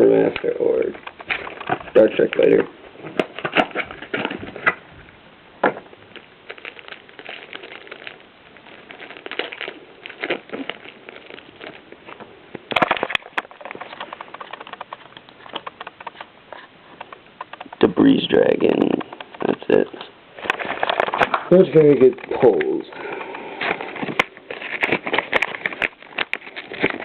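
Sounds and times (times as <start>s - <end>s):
cards rustling: 0.0s - 4.8s, 6.0s - 27.0s
foil wrapper crinkling: 0.0s - 4.9s, 5.9s - 27.0s.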